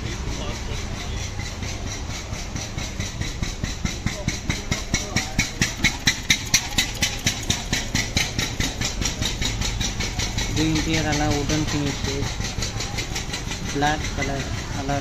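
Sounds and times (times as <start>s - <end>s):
engine idling with chuffing beat: 0.0s - 15.0s.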